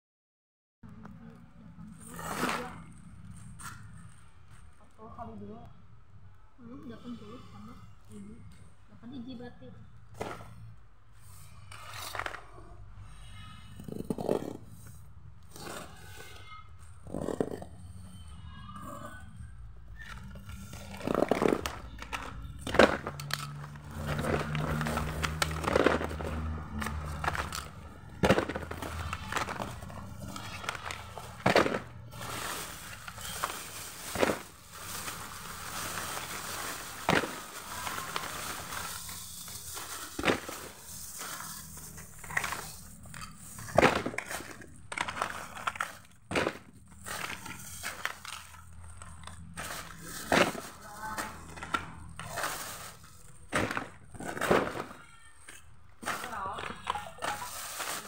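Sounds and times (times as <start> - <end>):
plastic bags rustling: 10.1 - 58.0.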